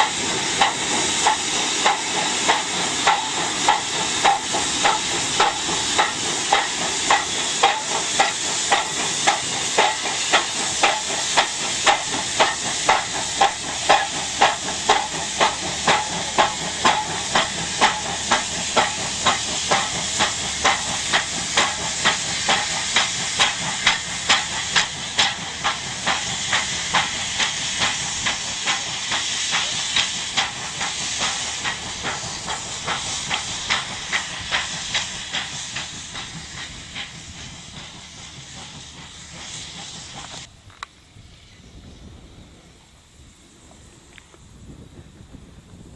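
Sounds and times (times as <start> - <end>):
steam hissing: 0.0 - 45.9
steam locomotive exhaust chuffs: 0.0 - 45.9.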